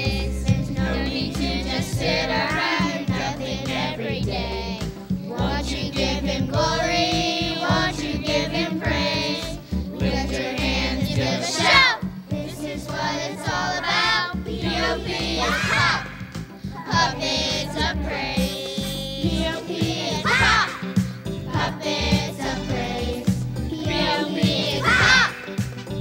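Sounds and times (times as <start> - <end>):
group of voices singing: 0.0 - 26.0
instrumental backing with bass line: 0.0 - 26.0.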